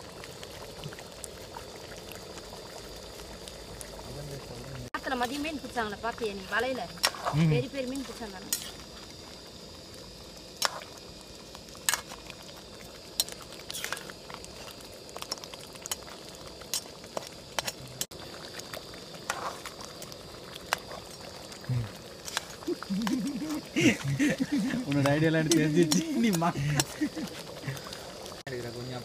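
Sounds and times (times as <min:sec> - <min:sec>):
curry bubbling in a pan: 0:00.0 - 0:29.0.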